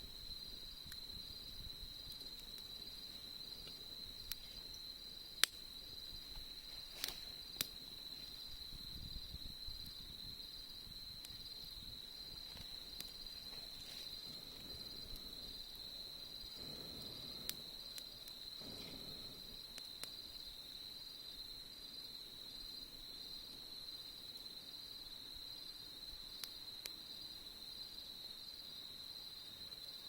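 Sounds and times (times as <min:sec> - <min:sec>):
campfire popping: 0:00.0 - 0:24.8, 0:25.6 - 0:27.9
insects trilling: 0:00.0 - 0:30.0.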